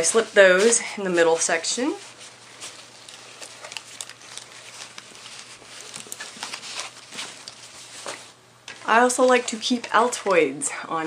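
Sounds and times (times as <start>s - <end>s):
fabric backpack rustling: 0.0s - 9.0s.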